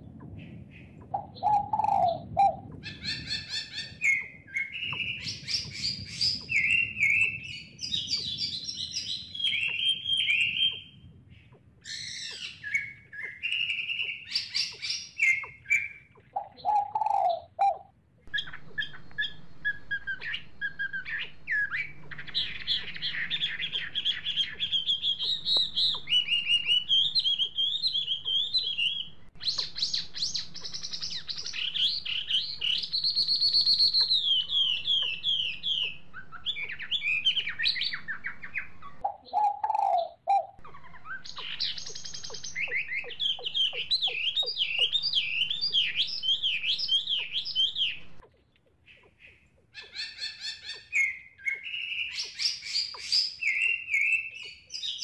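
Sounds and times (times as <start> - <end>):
birds chirping: 0.0 - 55.0
low bird call: 0.0 - 55.0.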